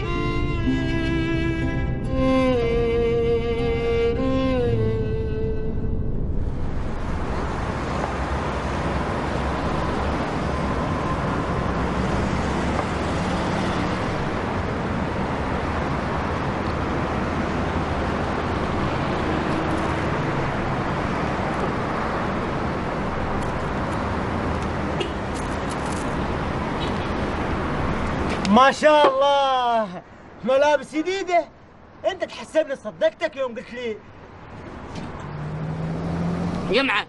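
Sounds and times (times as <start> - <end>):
cars driving past: 0.0 - 29.0, 33.6 - 37.0.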